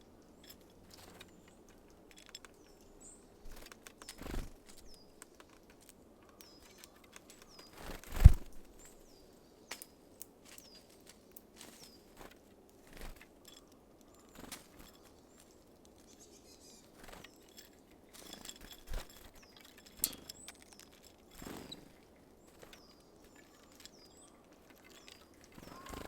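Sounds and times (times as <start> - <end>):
songbirds calling: 0.0 - 26.0
birds tapping at seed: 0.1 - 26.0.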